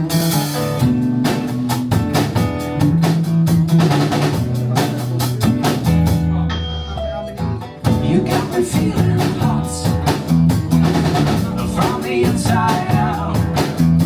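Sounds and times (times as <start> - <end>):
bass guitar: 0.0 - 14.0
drum kit: 0.0 - 14.0
guitars: 0.0 - 14.0.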